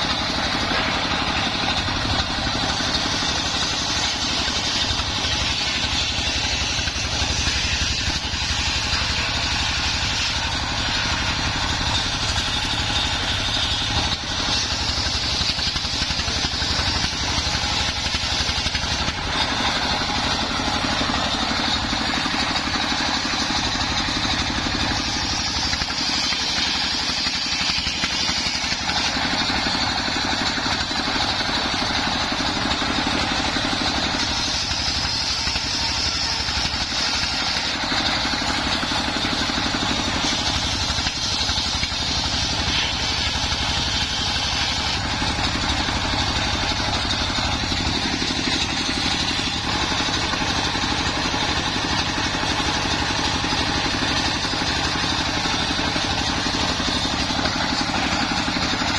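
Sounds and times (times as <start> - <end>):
diesel engine running: 0.0 - 58.9
saw blade cutting wood: 0.0 - 58.9.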